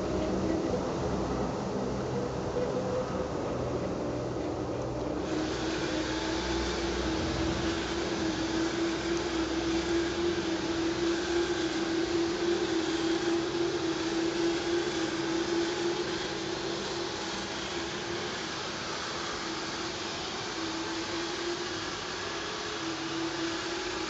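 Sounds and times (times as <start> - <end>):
model train motor hum: 0.0 - 24.0.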